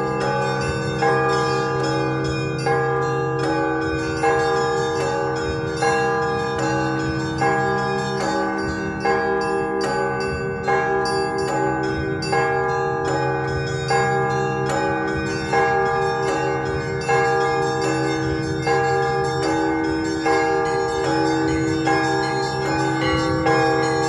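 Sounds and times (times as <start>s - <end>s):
deep hum of large bell: 0.0s - 24.0s
mid-sized bells struck: 0.0s - 24.0s
small bells chiming fast: 0.0s - 24.0s.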